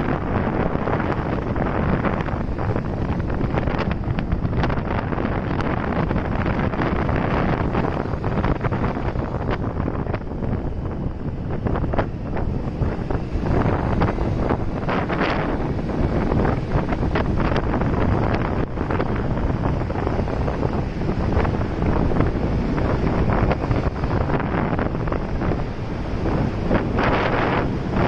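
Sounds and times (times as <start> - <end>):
motorcycle ride rumble: 0.0 - 28.0
wind buffeting microphone: 0.0 - 28.0.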